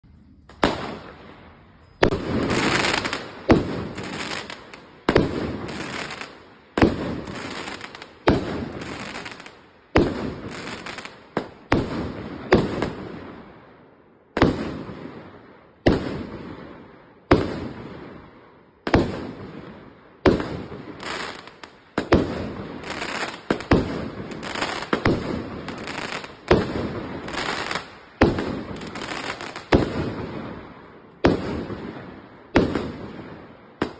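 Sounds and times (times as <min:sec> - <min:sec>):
firework shells bursting and crackling: 0:00.1 - 0:13.4, 0:15.8 - 0:33.9.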